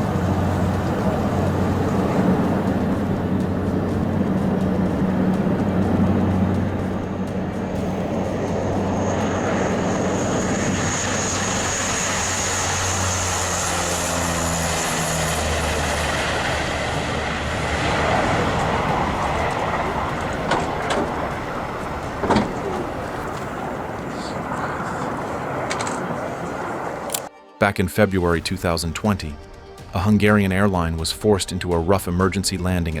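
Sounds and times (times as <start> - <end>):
steady rushing noise: 0.0 - 27.3
low drone: 0.0 - 27.4
aircraft engines running: 0.0 - 33.0.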